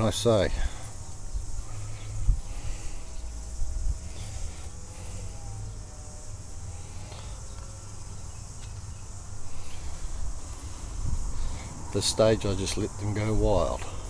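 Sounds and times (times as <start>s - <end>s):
insects chirring: 0.0s - 14.0s
low microphone rumble: 0.5s - 8.1s, 9.0s - 13.5s.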